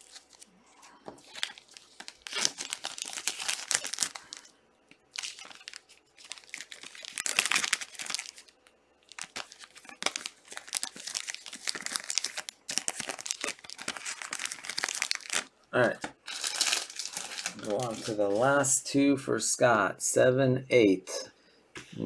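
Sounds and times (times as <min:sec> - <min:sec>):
wrappers crinkling and tearing: 0:00.0 - 0:04.5, 0:05.1 - 0:18.7.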